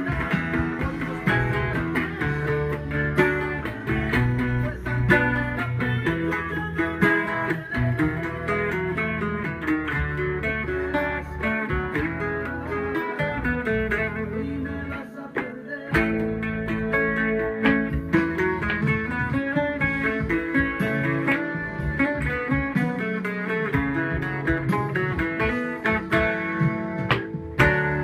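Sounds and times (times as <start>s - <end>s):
plucked bass runs: 0.0s - 15.0s, 15.9s - 28.0s
strummed chords: 0.0s - 28.0s.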